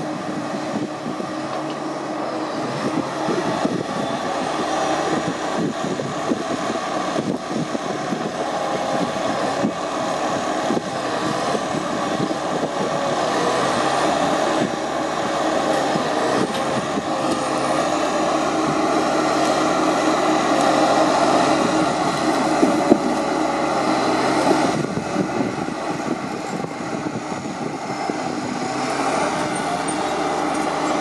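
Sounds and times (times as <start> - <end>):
forestry machine engine drone: 0.0 - 31.0
hydraulic crane whine: 0.0 - 31.0.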